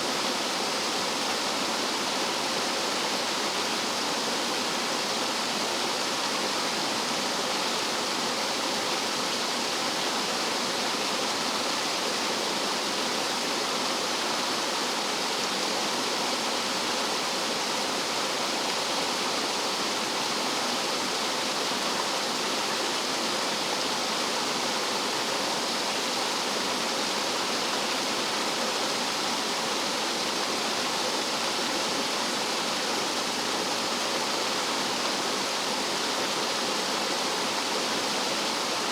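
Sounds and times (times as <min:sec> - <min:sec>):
stream water cascading: 0:00.0 - 0:38.9.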